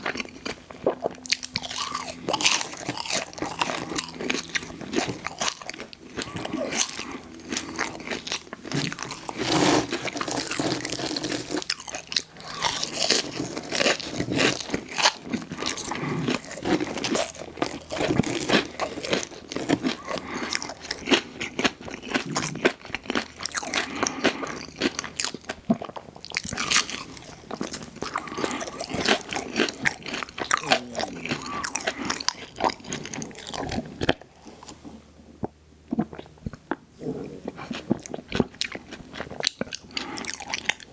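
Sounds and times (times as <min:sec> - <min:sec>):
crunchy bites and wet chewing: 0:00.0 - 0:34.8, 0:37.4 - 0:40.9.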